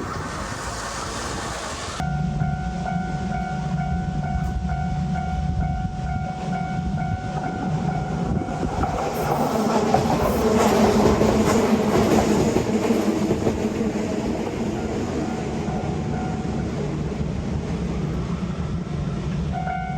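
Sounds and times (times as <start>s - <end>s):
train rumble and wheel clatter: 0.0s - 19.9s.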